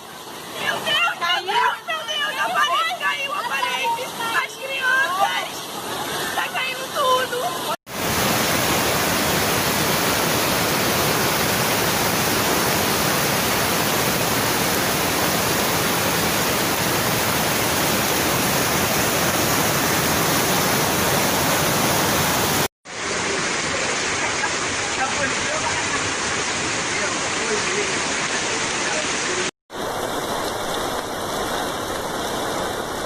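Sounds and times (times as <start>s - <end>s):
heavy rushing water: 0.0s - 33.0s
muffled water rush: 0.0s - 33.0s.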